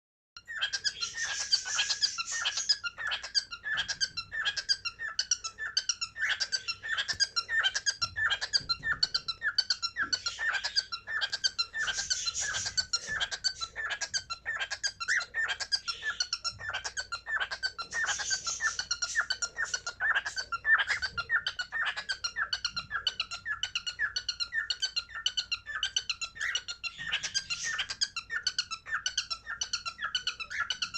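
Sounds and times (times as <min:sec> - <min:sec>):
cockatiels chirping: 0:00.4 - 0:30.9.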